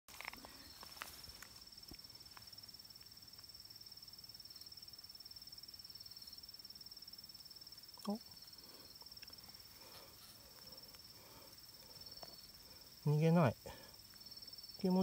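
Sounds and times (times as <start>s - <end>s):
insect trilling: 0.1s - 15.0s.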